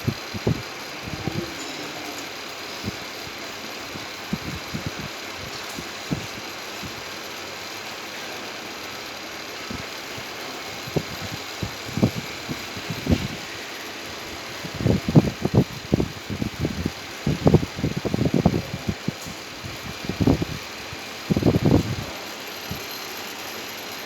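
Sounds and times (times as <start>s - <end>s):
machine whirring: 0.0s - 24.0s.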